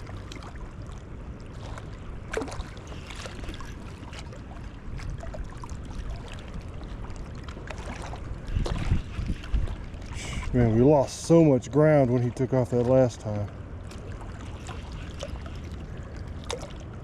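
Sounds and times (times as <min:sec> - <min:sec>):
river water flowing: 0:00.0 - 0:17.0
wind rumble on microphone: 0:00.0 - 0:17.0.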